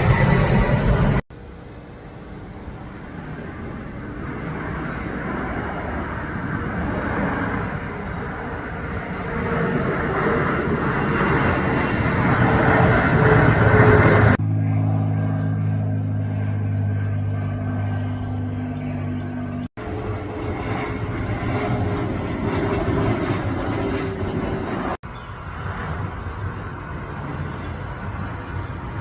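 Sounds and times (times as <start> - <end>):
aircraft rushing noise: 0.0 - 29.0.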